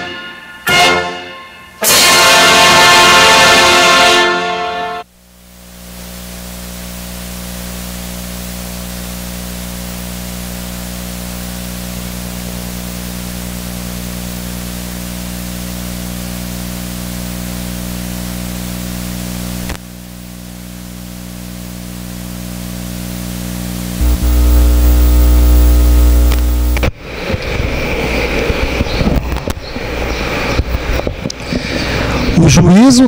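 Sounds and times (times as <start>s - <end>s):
electrical mains hum with hiss: 5.0s - 31.5s.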